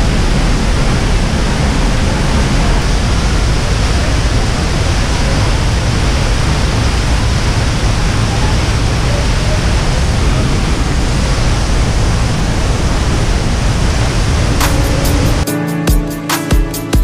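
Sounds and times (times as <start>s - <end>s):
waterfall rushing: 0.0s - 15.5s.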